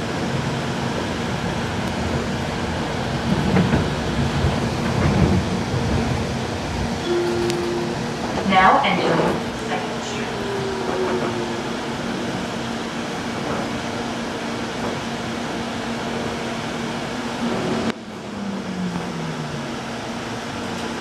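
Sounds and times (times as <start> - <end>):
train rolling noise and hum: 0.0 - 21.0.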